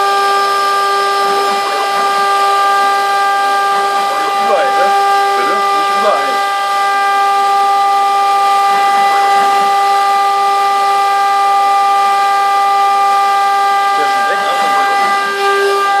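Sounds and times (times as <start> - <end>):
motors sweeping in pitch: 0.0 - 16.0
wood router high whine: 0.0 - 16.0.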